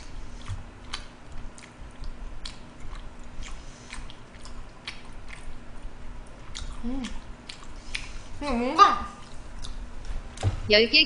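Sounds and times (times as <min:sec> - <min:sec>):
mouth chewing wetly: 0:00.0 - 0:08.2, 0:09.2 - 0:09.8.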